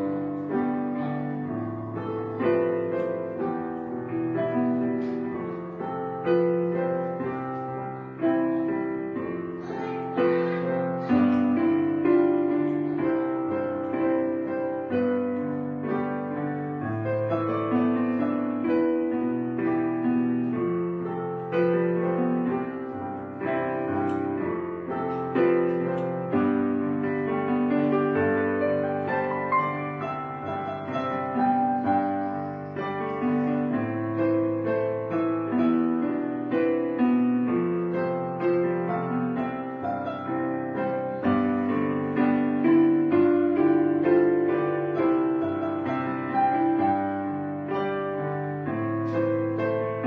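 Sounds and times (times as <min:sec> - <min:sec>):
piano chords ringing: 0:00.0 - 0:50.0.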